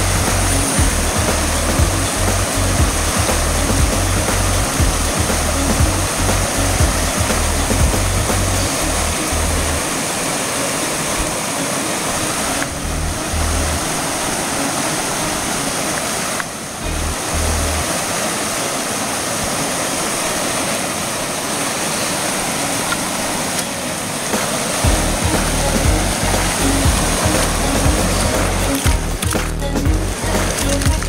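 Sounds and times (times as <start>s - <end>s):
background music: 0.0s - 17.9s, 22.6s - 31.0s
river water running over rocks: 0.0s - 31.0s.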